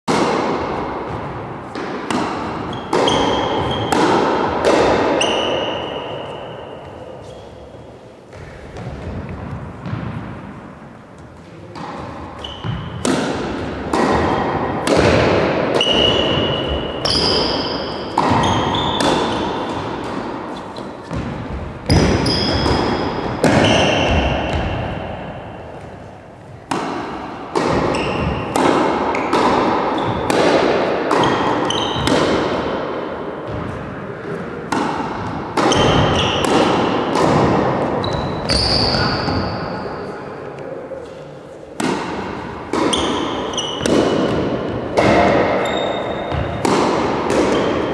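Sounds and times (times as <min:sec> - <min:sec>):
tennis ball bouncing on hard floor: 0:00.1 - 0:06.4, 0:08.3 - 0:10.6, 0:11.2 - 0:39.5, 0:41.8 - 0:47.9
racket hitting tennis ball: 0:00.1 - 0:40.0, 0:41.0 - 0:47.9.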